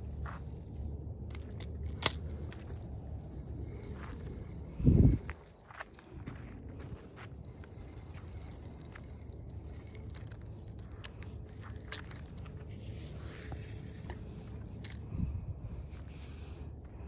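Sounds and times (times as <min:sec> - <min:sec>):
scraping and crunching handling noise: 0:00.0 - 0:15.2
steady low rumble: 0:00.0 - 0:17.0.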